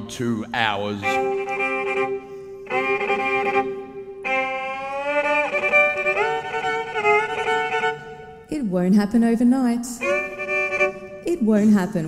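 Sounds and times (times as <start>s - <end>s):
violin playing slow bowed notes: 0.0s - 8.5s, 9.9s - 11.9s.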